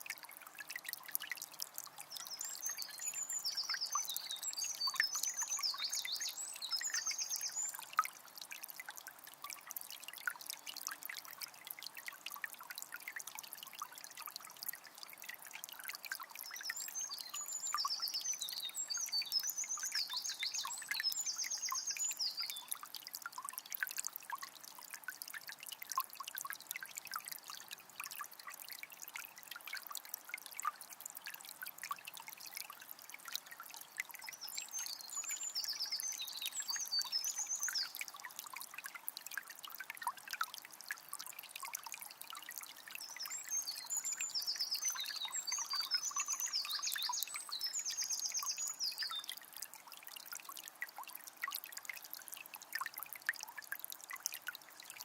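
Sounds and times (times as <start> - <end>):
spring water trickling: 0.0 - 55.0.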